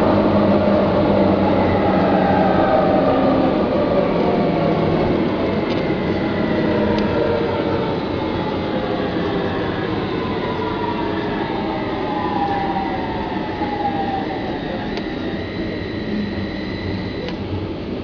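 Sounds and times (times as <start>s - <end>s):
train wheels rumbling on rails: 0.0s - 16.2s
motor whine gliding downward: 0.0s - 18.0s.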